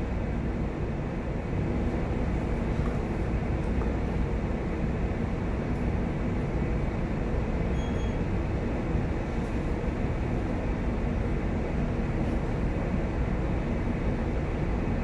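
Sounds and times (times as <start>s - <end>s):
ship engine low rumble: 0.0s - 15.0s.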